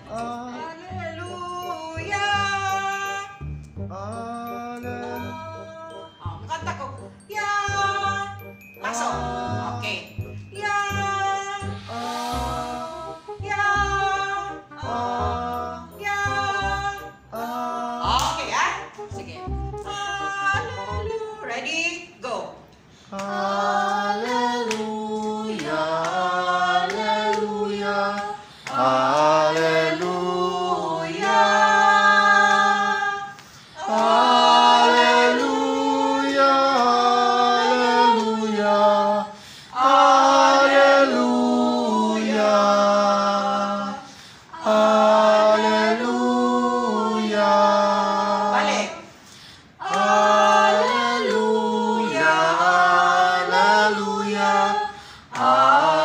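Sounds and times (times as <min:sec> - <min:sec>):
choir singing unaccompanied: 0:07.4 - 0:21.4, 0:23.1 - 0:49.1, 0:49.7 - 0:56.0.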